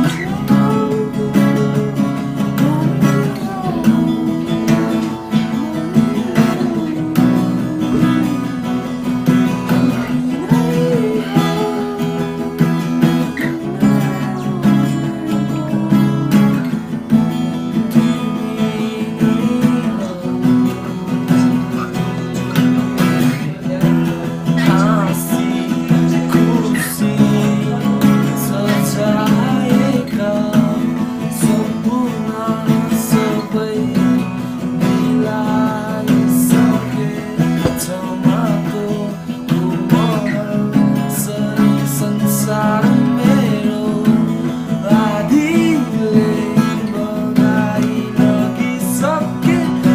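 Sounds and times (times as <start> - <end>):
person singing: 0.0 - 49.9
strummed acoustic guitar: 0.0 - 49.9.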